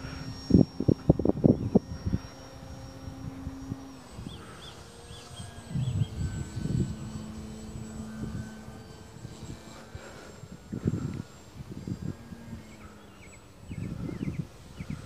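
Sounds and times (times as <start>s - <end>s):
distant model plane motor whine: 0.0s - 15.0s
wind buffeting microphone: 0.0s - 15.0s.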